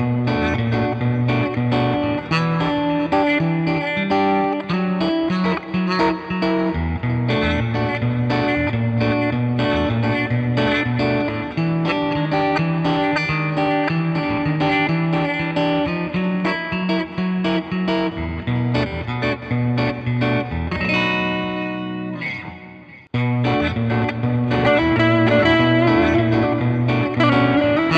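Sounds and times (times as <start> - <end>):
electric guitar melody and chords: 0.0 - 27.9.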